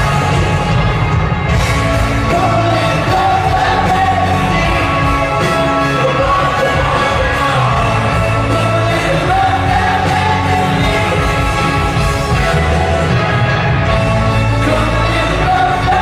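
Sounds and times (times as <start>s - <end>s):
band accompaniment: 0.0s - 16.0s.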